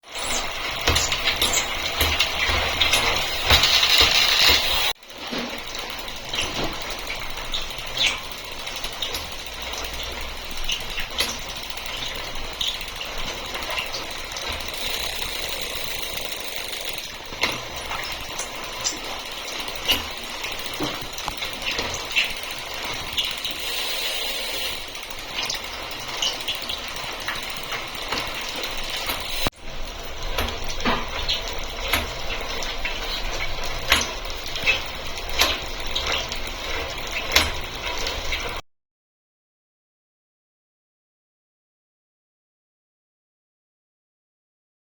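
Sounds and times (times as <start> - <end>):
bicycle gear hub squeaking: 0.0 - 38.6
mechanical running noise: 0.0 - 38.6.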